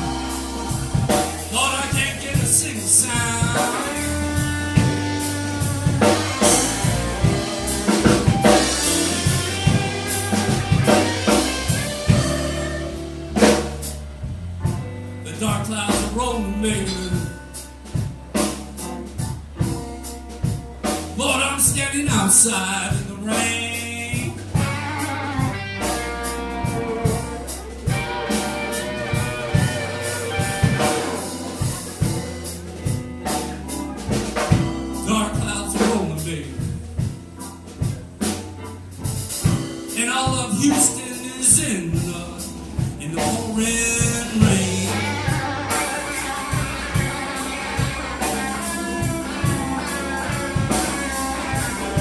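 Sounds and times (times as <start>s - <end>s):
person singing: 0.0s - 13.5s, 15.2s - 17.6s, 21.2s - 32.2s, 34.5s - 37.1s, 39.4s - 52.0s
drum hits: 0.0s - 52.0s
live blues band playing: 0.0s - 52.0s.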